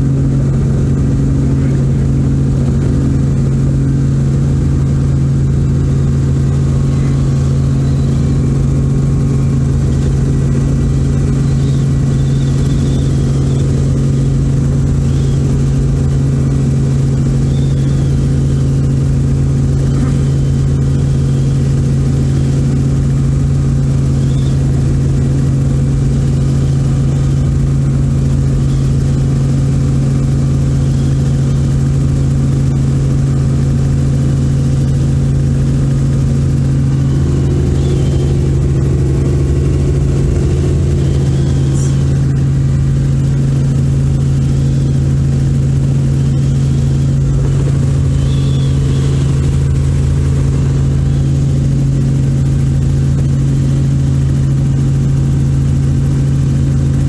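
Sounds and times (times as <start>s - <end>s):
helicopter engine and rotors droning: 0.0s - 57.0s.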